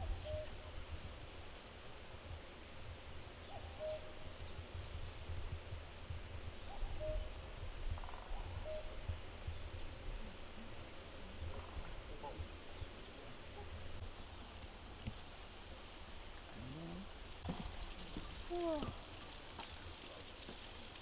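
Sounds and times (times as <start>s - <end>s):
low wind rumble: 0.0s - 21.0s.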